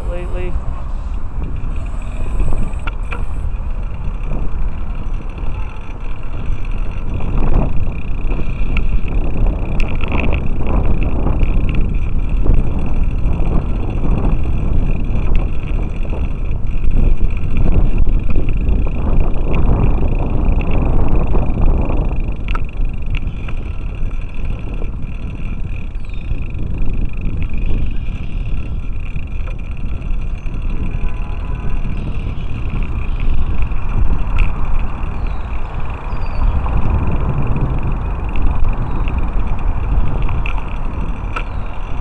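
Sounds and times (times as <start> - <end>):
bicycle tyre rumble: 0.0 - 42.0
wind buffeting microphone: 0.0 - 42.0.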